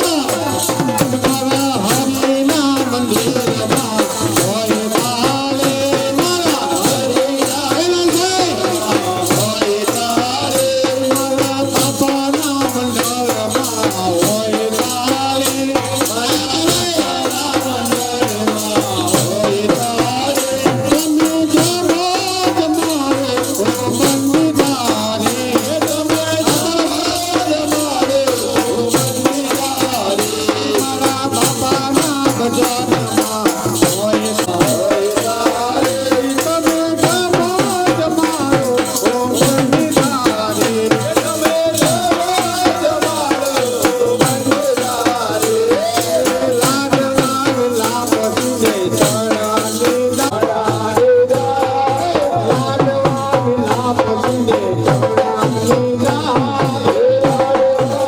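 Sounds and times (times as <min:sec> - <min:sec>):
fast rattle and drum beat: 0:00.0 - 0:58.0.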